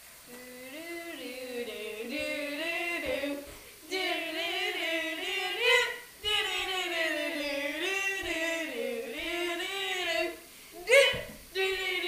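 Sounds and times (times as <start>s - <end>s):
female voices singing: 0.3s - 12.0s.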